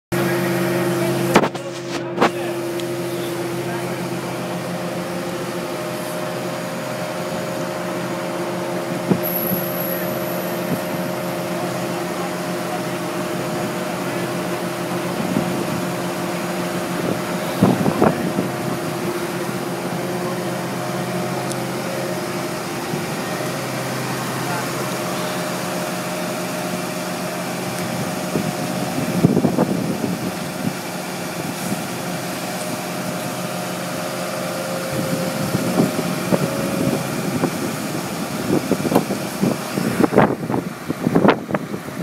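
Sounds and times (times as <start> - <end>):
diesel engine droning: 0.1 - 42.0.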